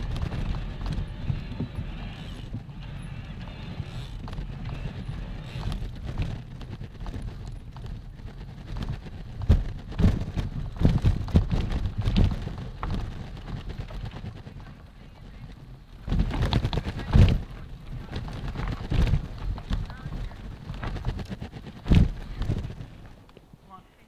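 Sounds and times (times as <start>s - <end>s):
bike frame rattling and knocking: 0.0s - 23.3s
low rumble of tyres and wind: 0.0s - 24.0s.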